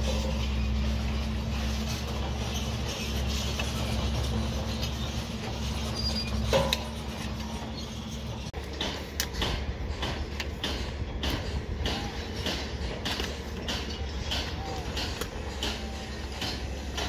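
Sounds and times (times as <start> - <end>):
hoe and shovels digging stony soil: 0.0 - 17.0
low machinery hum: 0.0 - 17.0.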